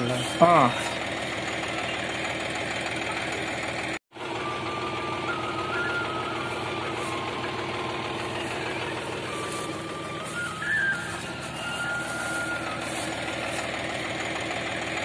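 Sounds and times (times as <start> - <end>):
baler machinery drone: 0.0 - 15.0.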